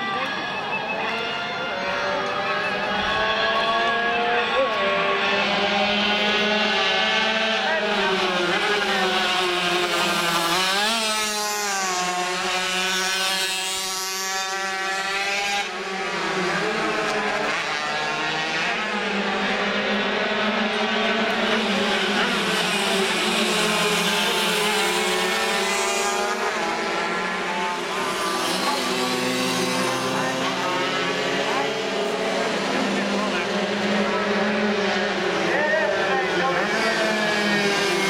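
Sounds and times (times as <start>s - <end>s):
racing motorcycles passing: 0.0s - 38.0s.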